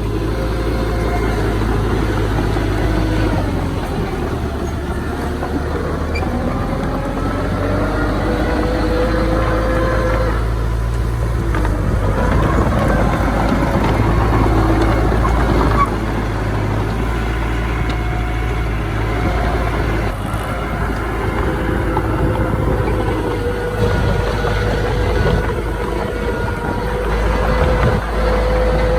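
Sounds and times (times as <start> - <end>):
earthmoving machinery rumbling: 0.0 - 28.9.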